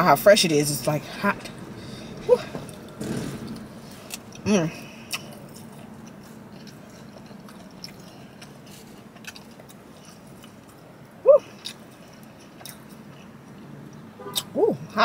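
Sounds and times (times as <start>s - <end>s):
low steady hum: 0.0s - 15.0s
person chewing: 1.8s - 14.5s.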